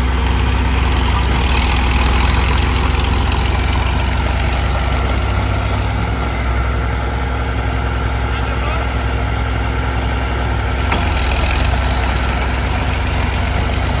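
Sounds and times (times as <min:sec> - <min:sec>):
diesel engine deep rumble: 0:00.0 - 0:14.0.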